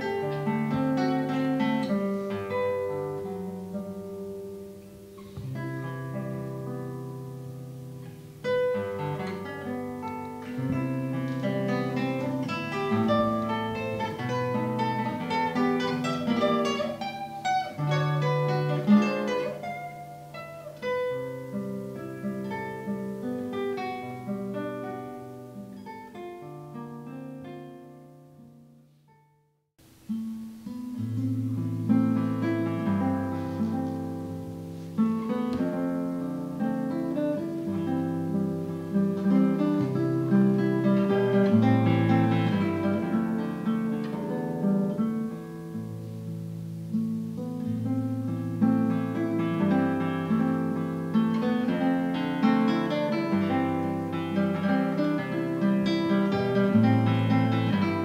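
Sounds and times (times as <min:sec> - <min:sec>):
classical guitar fingerstyle: 0:00.0 - 0:58.0.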